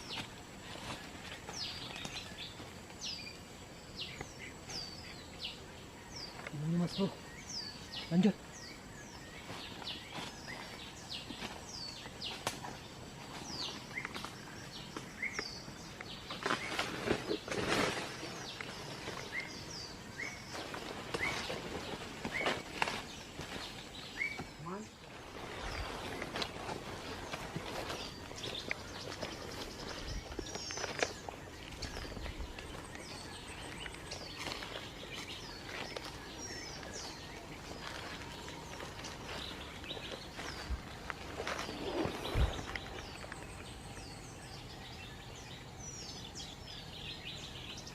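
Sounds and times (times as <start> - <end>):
background hiss: 0.0 - 47.9
birds whistling: 4.0 - 47.9.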